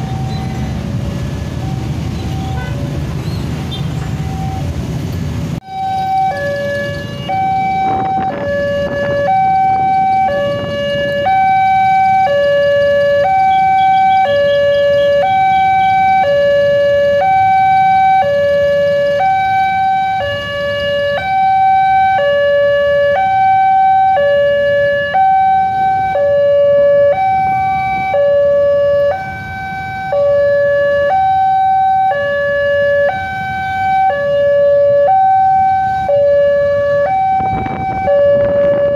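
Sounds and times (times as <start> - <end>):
two-tone crossing alarm: 0.0 - 2.8, 3.6 - 4.7, 5.6 - 38.9
road traffic rumble: 0.0 - 38.9.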